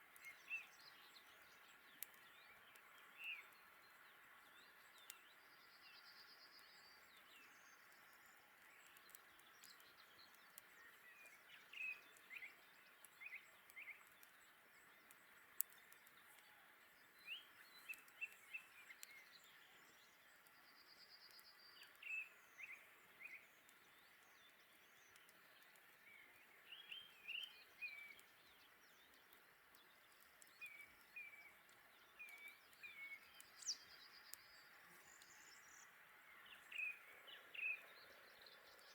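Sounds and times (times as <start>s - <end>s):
songbird chirping: 0.0s - 38.9s
faint clicks: 0.1s - 3.6s, 4.8s - 5.4s, 6.6s - 36.9s.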